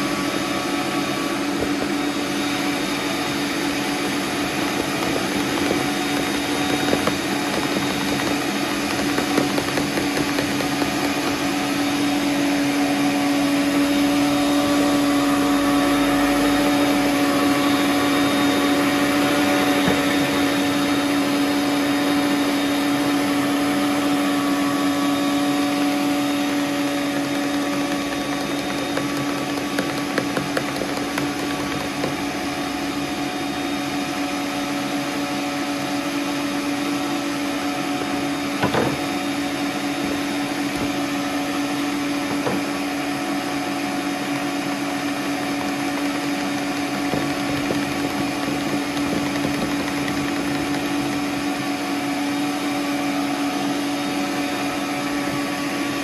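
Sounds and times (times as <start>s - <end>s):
stand mixer motor running: 0.0s - 56.0s.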